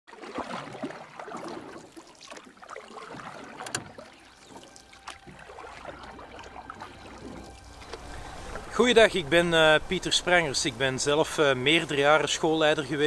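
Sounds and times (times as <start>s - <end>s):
small waves lapping at shore: 0.1s - 13.0s.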